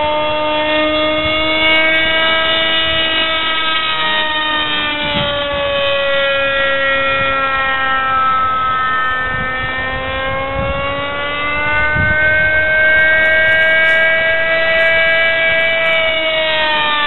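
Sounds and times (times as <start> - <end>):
model airplane engine buzzing: 0.0 - 17.0.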